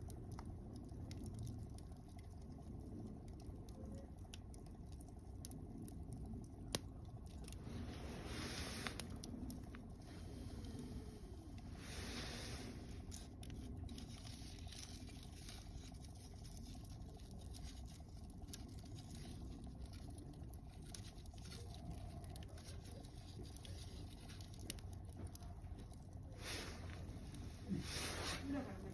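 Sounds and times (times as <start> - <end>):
fire low rumble: 0.0 - 28.9
wood fire crackling and popping: 0.0 - 28.9.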